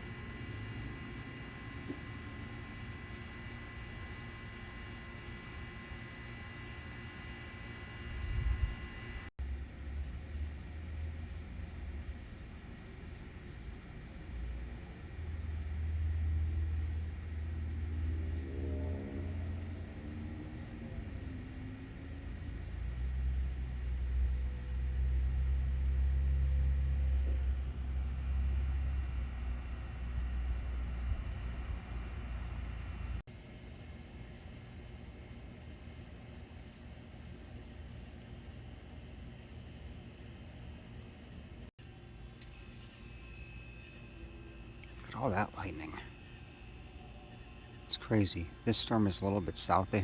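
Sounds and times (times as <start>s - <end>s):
crickets chirring: 0.0s - 50.0s.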